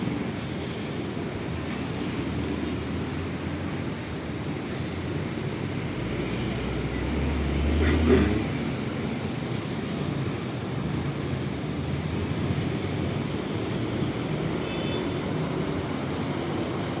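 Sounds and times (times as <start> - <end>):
heavy road traffic rumble: 0.0 - 17.0.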